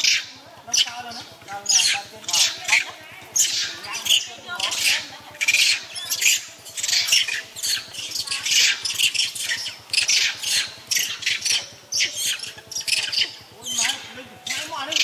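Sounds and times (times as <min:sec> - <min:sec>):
monkeys screaming: 0:00.0 - 0:15.0.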